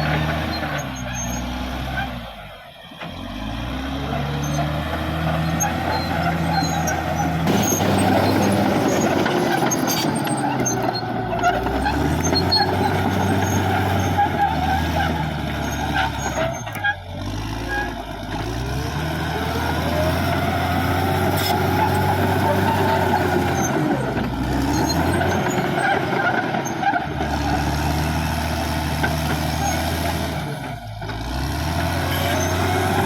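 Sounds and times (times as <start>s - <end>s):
bulldozer diesel engine under load: 0.0s - 33.0s.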